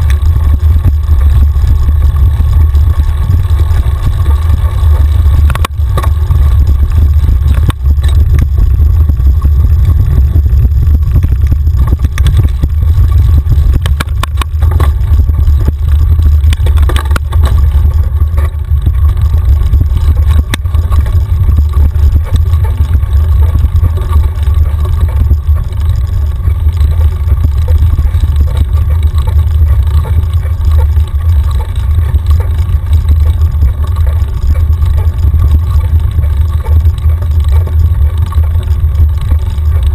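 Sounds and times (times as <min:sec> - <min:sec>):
bike knocking and rattling: 0:00.0 - 0:39.9
wind and trail rumble: 0:00.0 - 0:39.9.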